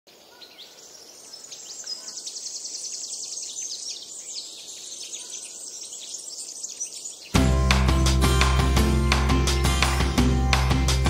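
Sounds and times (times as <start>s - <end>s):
birds chirping and trilling: 0.1s - 11.0s.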